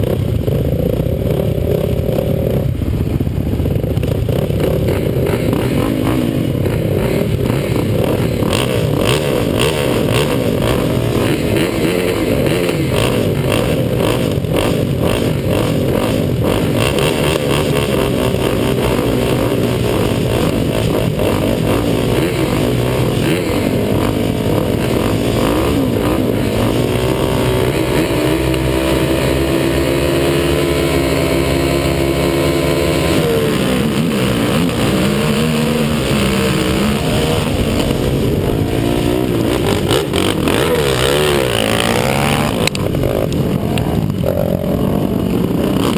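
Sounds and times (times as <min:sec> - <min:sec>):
quad engines revving: 0:00.0 - 0:45.9.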